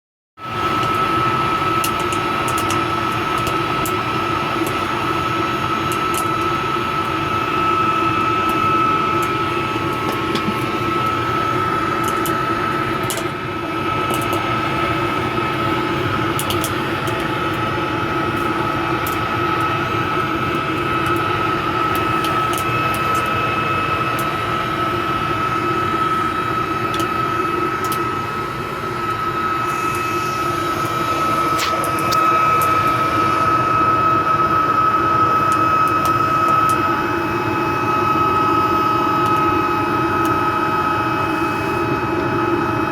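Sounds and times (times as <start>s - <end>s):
furnace roaring with high whine: 0.4s - 42.9s.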